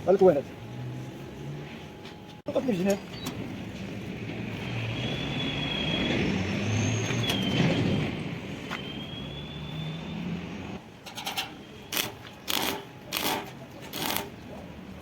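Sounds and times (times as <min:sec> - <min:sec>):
passing motor vehicle rumble: 0:00.0 - 0:12.8.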